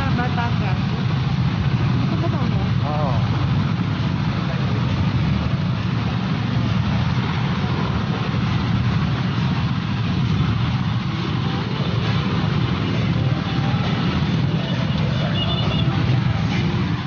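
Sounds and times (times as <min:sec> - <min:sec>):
road noise hiss: 0:00.0 - 0:17.0
vehicle engine rumbling: 0:00.0 - 0:17.0.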